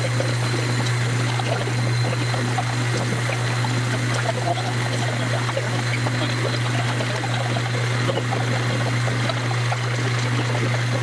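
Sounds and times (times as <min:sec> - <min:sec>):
lathe humming: 0:00.0 - 0:11.0.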